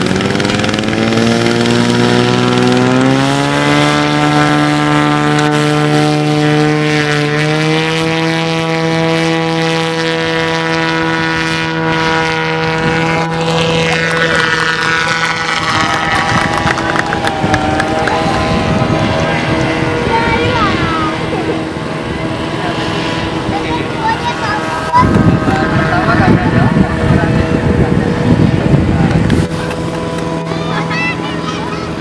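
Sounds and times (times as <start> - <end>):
propeller engine at takeoff power: 0.0 - 32.0.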